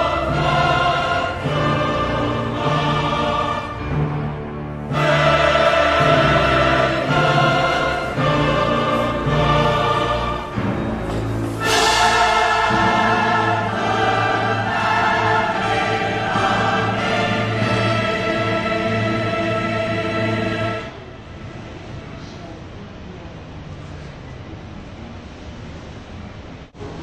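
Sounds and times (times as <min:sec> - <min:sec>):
choir singing with orchestra: 0:00.0 - 0:21.8.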